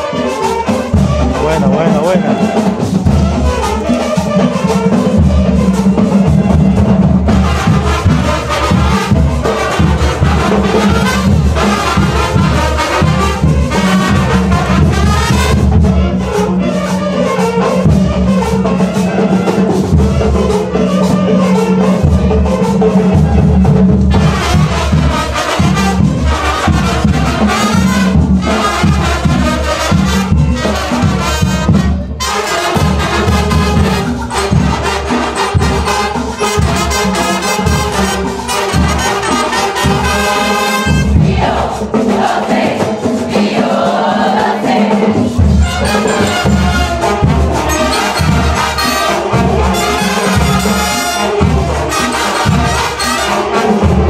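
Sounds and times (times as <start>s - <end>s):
brass instruments: 0.0s - 54.0s
steady drum beat: 0.0s - 54.0s.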